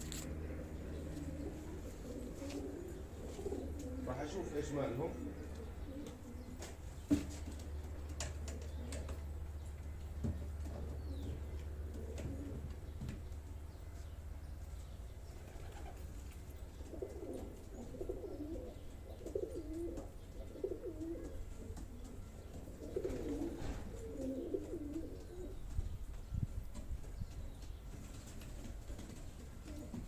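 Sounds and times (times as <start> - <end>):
pigeons cooing: 0.0 - 26.0, 26.8 - 30.0.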